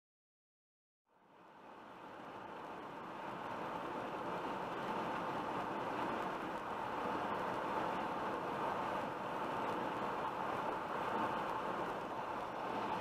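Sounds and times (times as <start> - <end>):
car engine hum: 1.1 - 13.0
tyre and road noise: 1.2 - 13.0.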